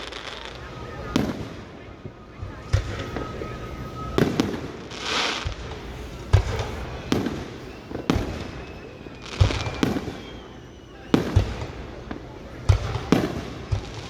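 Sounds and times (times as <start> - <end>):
fireworks booming and banging: 0.0 - 14.0
firework hissing burst: 2.6 - 14.0.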